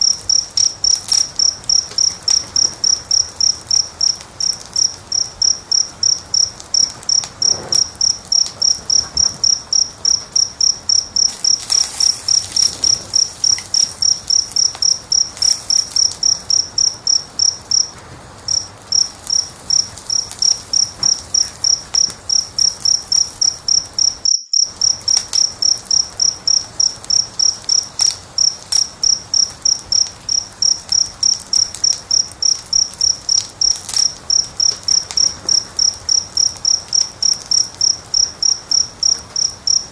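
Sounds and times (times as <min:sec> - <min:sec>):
cricket chirping: 0:00.0 - 0:39.9
wood fire crackling: 0:00.0 - 0:39.9.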